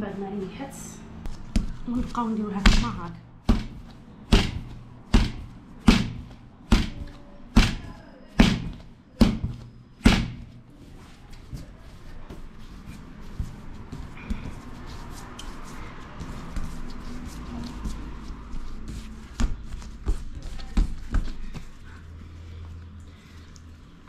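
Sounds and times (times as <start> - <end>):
hands rubbing and pressing dough: 1.3 - 24.0.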